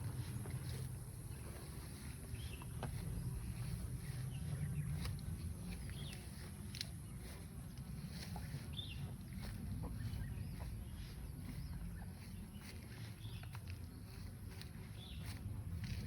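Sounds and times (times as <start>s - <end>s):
birds chirping: 0.0s - 16.0s
wind rumble on microphone: 0.0s - 16.0s.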